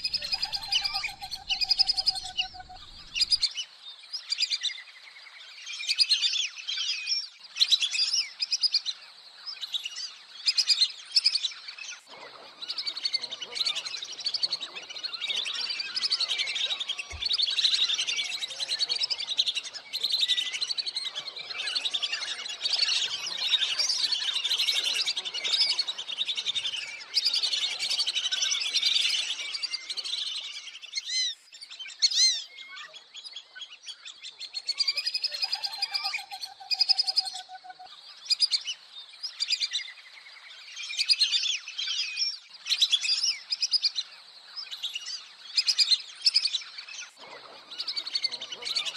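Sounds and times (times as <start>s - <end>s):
whistling ducks calling: 0.0s - 9.0s, 9.6s - 48.9s.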